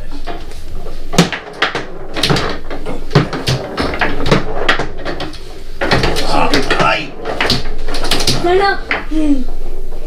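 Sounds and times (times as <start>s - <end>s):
foosball knocks and clacks: 0.2s - 10.0s.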